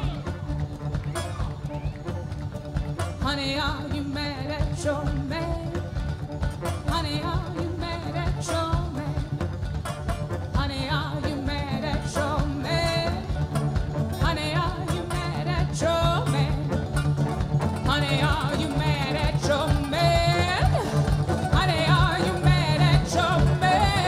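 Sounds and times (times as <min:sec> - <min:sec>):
banjo: 0:00.0 - 0:24.0
string band music: 0:00.0 - 0:24.0.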